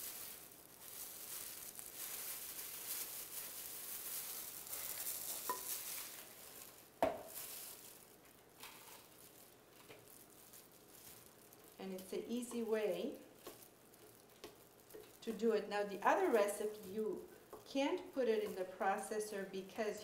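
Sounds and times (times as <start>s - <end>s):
plastic gloves rustling: 0.0s - 20.0s.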